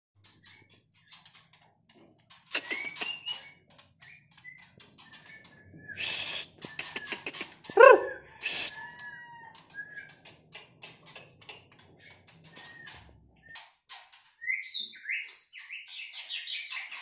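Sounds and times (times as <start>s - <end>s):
songbirds chipping and whistling: 0.2s - 17.0s.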